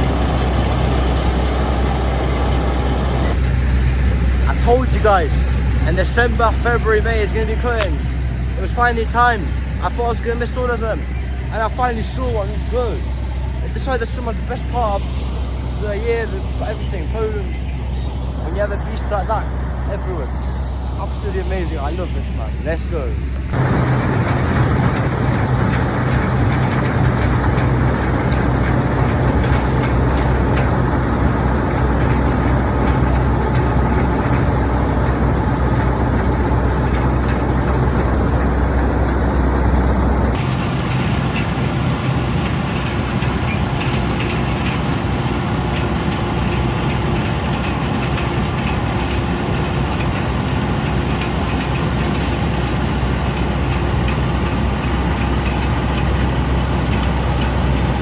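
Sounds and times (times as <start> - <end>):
combine harvester diesel engine drone: 0.0 - 58.0.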